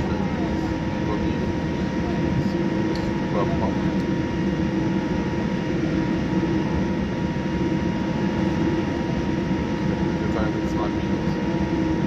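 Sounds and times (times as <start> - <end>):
airliner cabin engine rumble: 0.0 - 12.0
constant humming tones: 0.0 - 12.0.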